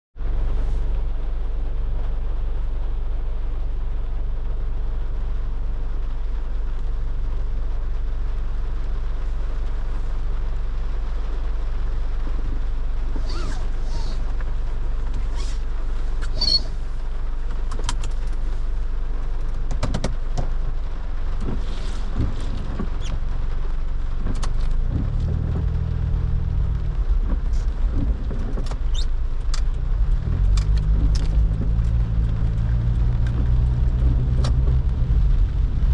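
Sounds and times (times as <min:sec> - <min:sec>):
car engine and road rumble: 0:00.1 - 0:35.9.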